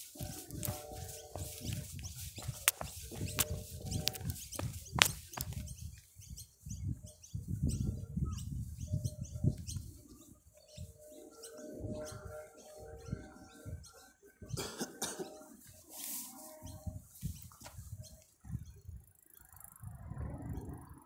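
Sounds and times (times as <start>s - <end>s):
wind buffeting microphone: 0.0s - 15.9s, 16.5s - 21.0s
small birds chirping: 0.0s - 19.8s.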